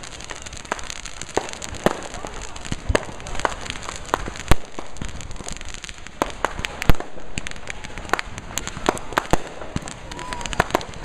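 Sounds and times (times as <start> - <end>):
firecrackers crackling: 0.0 - 11.0
loud firework bangs: 0.0 - 11.0.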